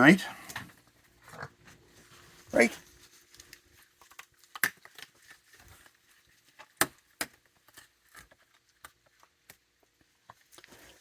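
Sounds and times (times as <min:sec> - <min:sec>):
animals rummaging in food dishes: 0:00.0 - 0:11.0.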